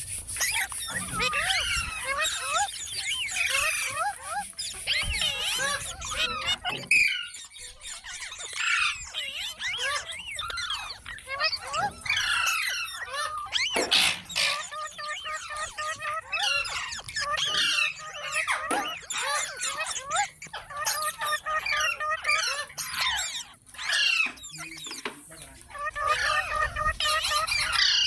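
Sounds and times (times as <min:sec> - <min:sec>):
parakeets chattering and squawking: 0:00.0 - 0:28.0.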